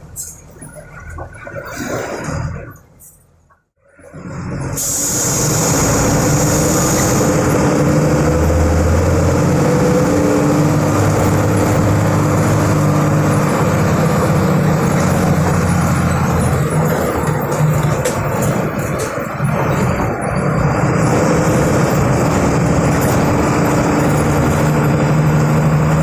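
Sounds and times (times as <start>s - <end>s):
bus diesel engine running: 3.4s - 26.0s.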